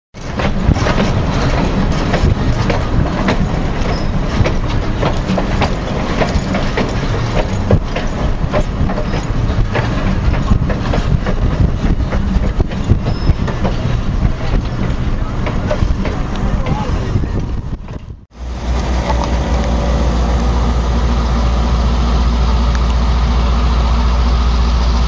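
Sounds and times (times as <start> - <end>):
train cars rumbling: 0.1 - 25.0
steel wheels clacking on rails: 0.2 - 25.0.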